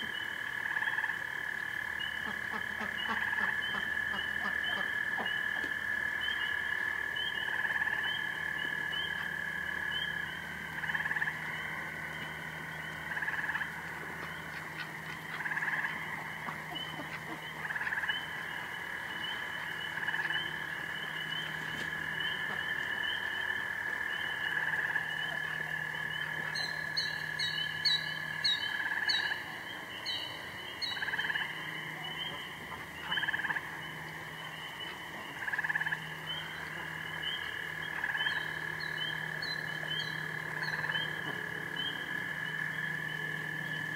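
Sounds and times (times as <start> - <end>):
fast pulsing frog call: 0.0 - 43.9
frogs trilling: 0.0 - 43.9.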